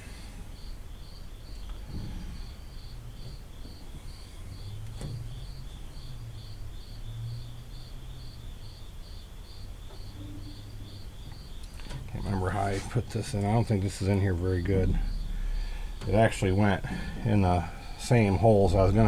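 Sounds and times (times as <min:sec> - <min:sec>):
crickets chirping: 0:00.0 - 0:19.0
faint low hum: 0:00.0 - 0:19.0.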